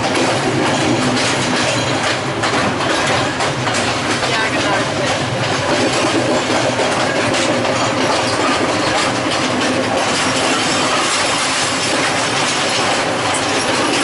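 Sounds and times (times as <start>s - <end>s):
train wheels rumbling and rattling: 0.0s - 14.0s.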